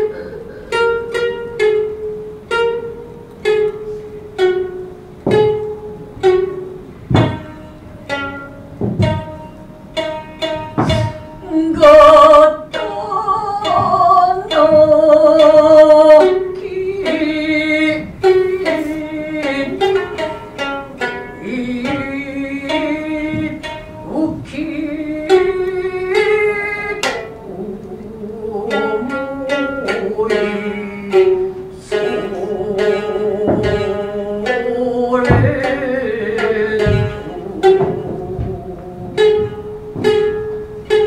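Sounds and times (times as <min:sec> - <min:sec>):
plucked shamisen: 0:00.0 - 0:41.0.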